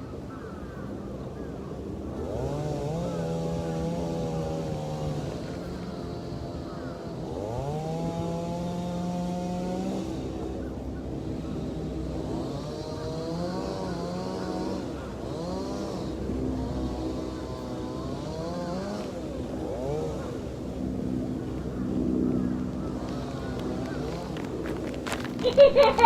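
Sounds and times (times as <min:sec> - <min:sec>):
vehicle engines revving: 0:01.9 - 0:26.0.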